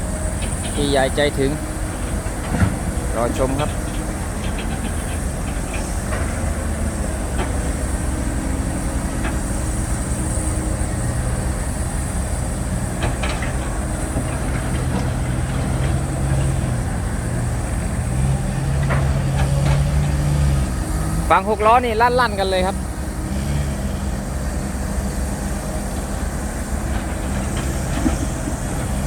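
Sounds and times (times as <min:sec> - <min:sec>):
diesel machinery engines running: 0:00.0 - 0:29.0.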